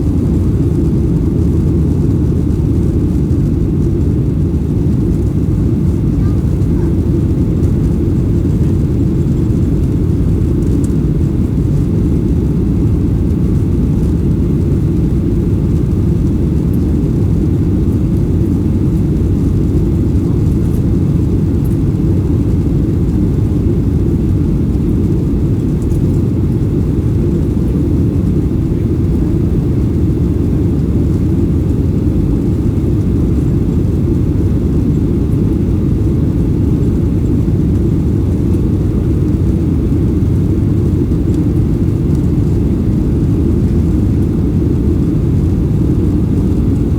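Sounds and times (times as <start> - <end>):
airplane cabin low rumble: 0.0 - 46.9.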